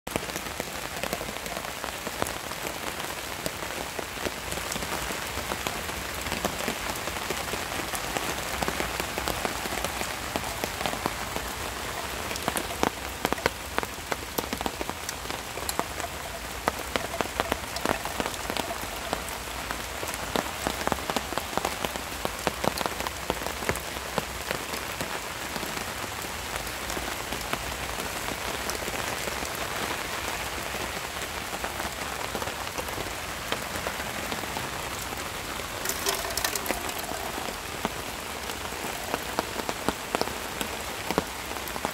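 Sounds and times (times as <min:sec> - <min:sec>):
rain falling: 0:00.0 - 0:41.9
raindrops tapping: 0:00.1 - 0:41.9.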